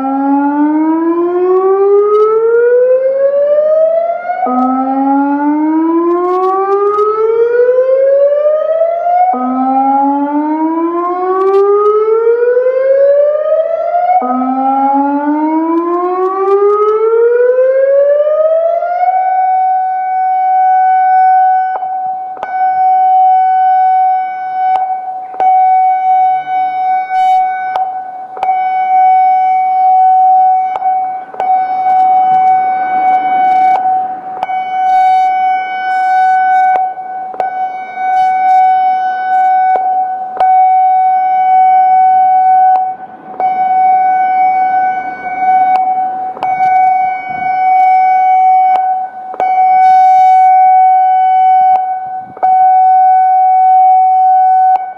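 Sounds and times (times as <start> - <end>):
rotating warning siren: 0.0 - 54.9.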